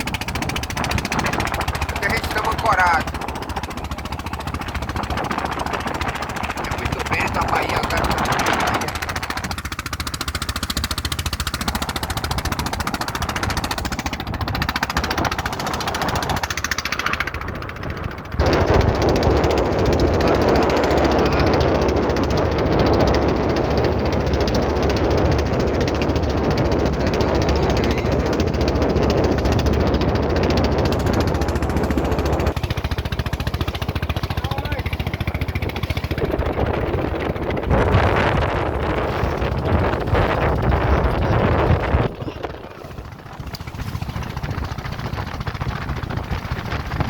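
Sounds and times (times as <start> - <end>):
boat motor running: 0.0 - 47.0
wind buffeting microphone: 0.0 - 47.0.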